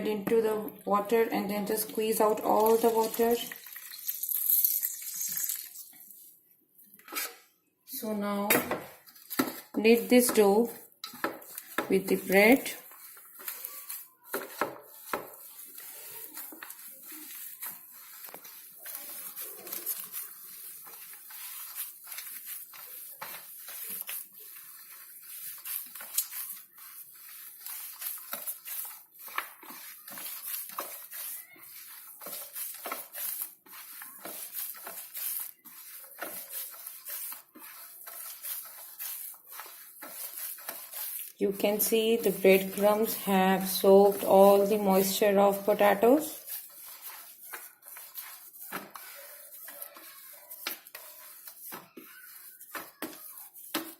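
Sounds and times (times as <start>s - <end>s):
hands squishing potato: 1.8s - 4.4s, 9.0s - 53.9s.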